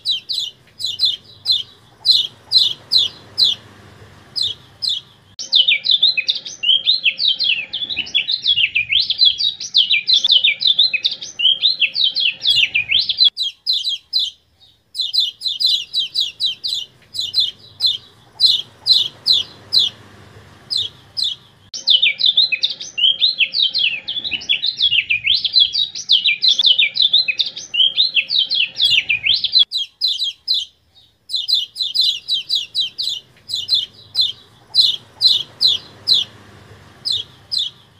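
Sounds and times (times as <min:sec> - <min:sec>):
bird twittering: 0:00.0 - 0:37.9
sharp downward bird chirps: 0:00.0 - 0:37.9.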